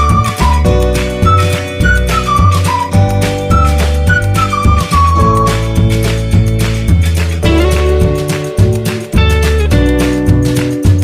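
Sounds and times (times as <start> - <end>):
background music with guitar and bass: 0.0 - 11.0.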